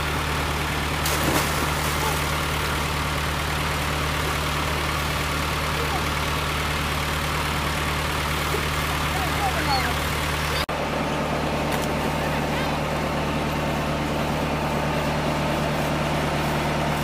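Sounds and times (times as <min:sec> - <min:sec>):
pump humming: 0:00.0 - 0:17.0.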